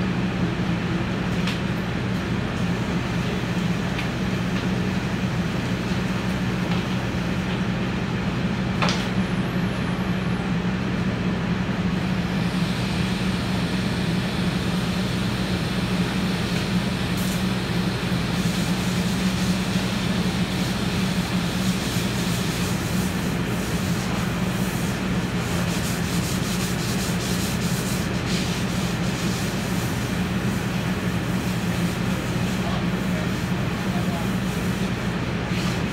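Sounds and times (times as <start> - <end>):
exhaust fan humming: 0.0 - 35.9.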